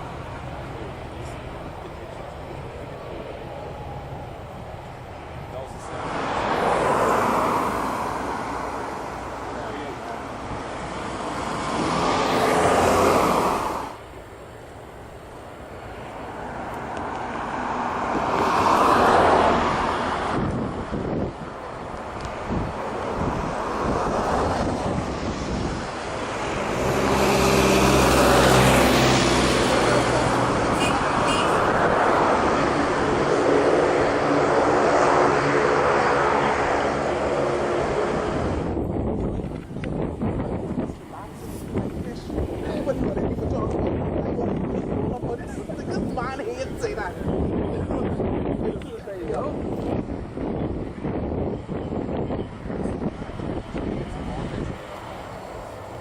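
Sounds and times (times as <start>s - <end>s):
aircraft engine noise: 0.0s - 56.0s
wind buffeting microphone: 0.0s - 56.0s.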